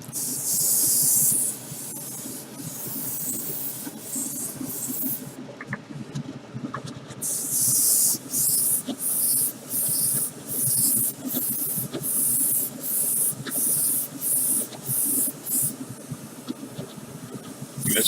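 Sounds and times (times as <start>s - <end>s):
spray paint hissing: 0.1s - 5.4s, 7.2s - 16.9s.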